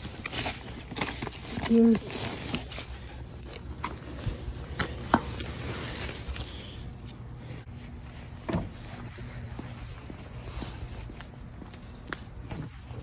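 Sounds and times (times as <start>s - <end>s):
scuffing and rustling: 0.0s - 13.0s
steady low hum: 0.0s - 13.0s.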